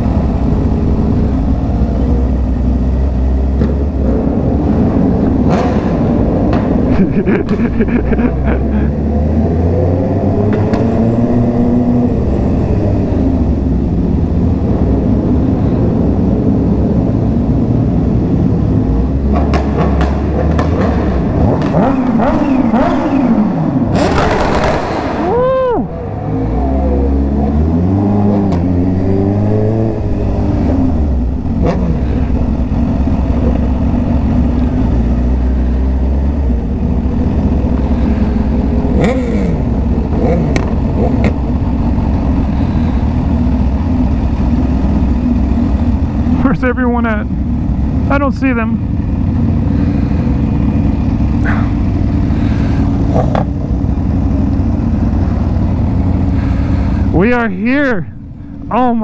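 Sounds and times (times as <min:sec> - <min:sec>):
motorcycle engine revving: 0:00.0 - 0:57.2.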